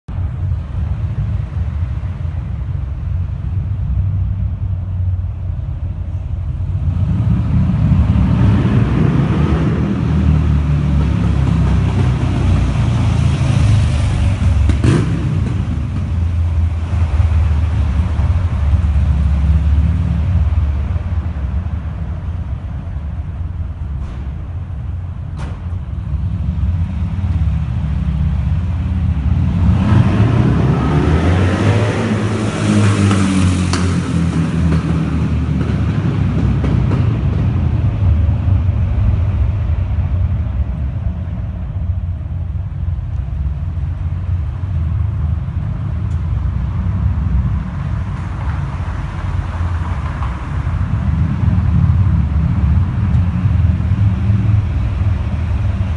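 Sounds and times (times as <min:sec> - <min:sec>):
motorcycle engine throbbing: 0:00.1 - 0:55.9.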